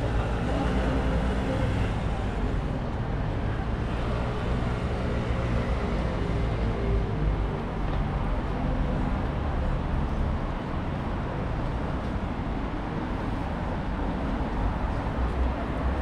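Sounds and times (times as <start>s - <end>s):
passing traffic rumble: 0.0s - 16.0s.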